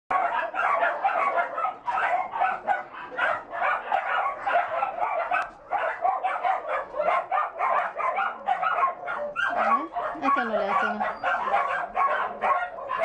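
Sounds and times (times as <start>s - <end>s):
dogs barking and yapping: 0.1s - 13.0s.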